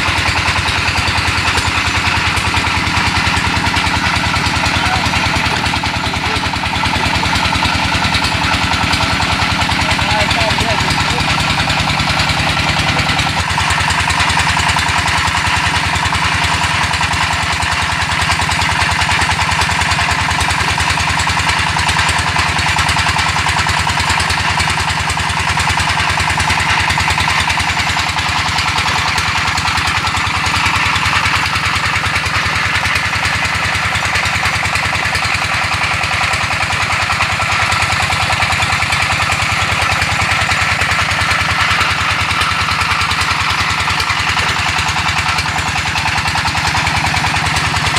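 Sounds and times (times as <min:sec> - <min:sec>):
brick-making machine rattling: 0:00.0 - 0:47.9.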